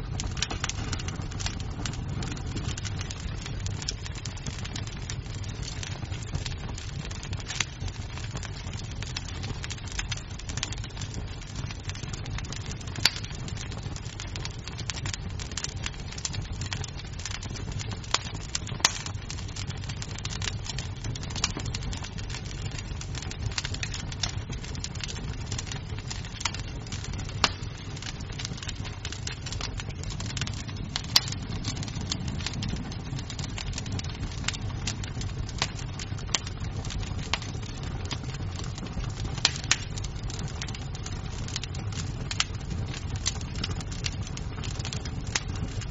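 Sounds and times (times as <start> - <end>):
burning wood snapping and popping: 0.0 - 45.9
low rumble of flames: 0.0 - 45.9.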